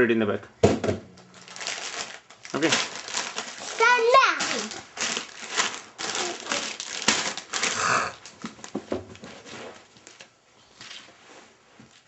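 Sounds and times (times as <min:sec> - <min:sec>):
plastic packets crinkling: 0:01.2 - 0:11.0.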